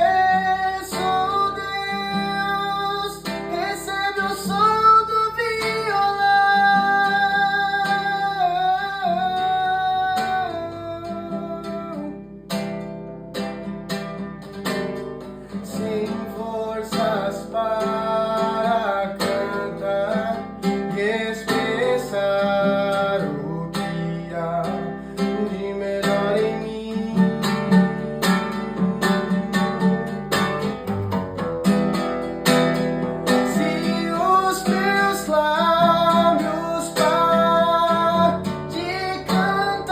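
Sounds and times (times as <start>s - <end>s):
acoustic guitar playing a melody: 0.0s - 39.9s.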